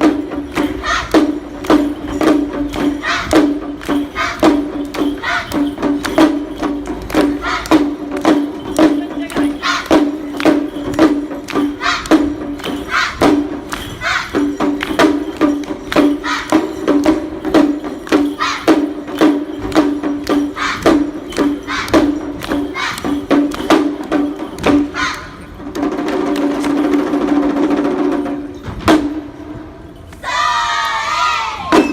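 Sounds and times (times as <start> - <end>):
percussion strikes in steady beat: 0.0 - 31.9.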